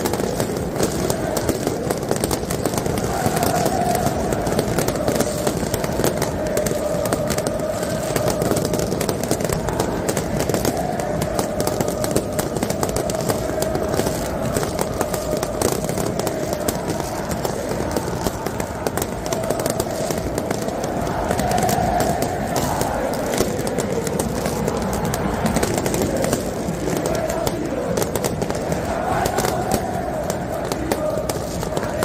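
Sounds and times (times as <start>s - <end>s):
fireworks crackling and popping: 0.0s - 32.0s
stadium crowd singing a chant: 0.0s - 32.0s.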